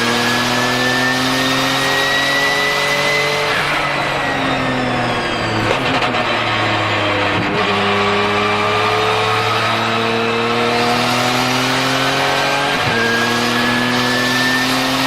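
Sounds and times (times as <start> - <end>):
racing car engine pulling hard: 0.0 - 15.0.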